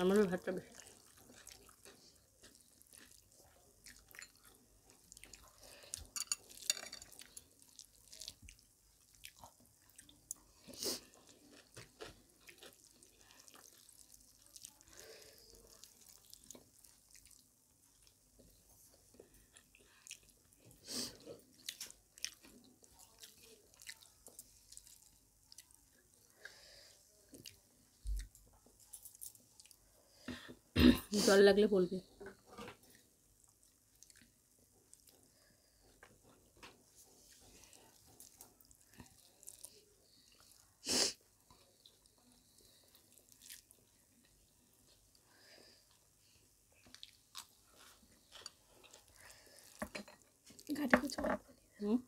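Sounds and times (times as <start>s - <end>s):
people chewing: 0.1s - 30.6s, 32.2s - 50.8s.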